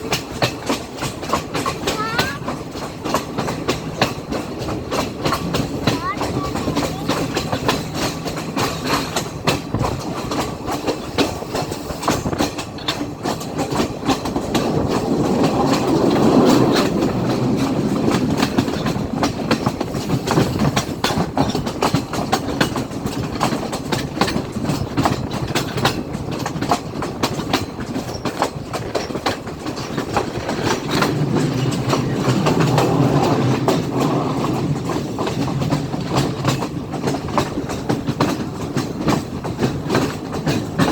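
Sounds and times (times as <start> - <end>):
train rumble: 0.0 - 40.9
train wheels clattering over rail joints: 0.0 - 40.9.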